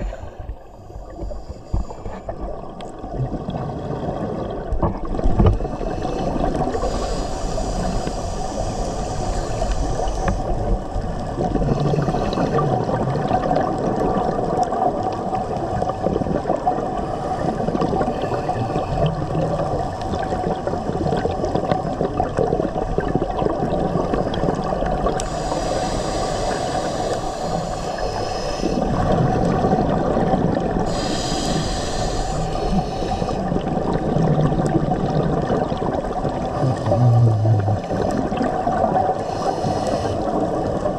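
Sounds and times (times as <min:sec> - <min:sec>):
scuba regulator bubbling: 0:00.0 - 0:40.9
underwater rush of water: 0:00.0 - 0:40.9.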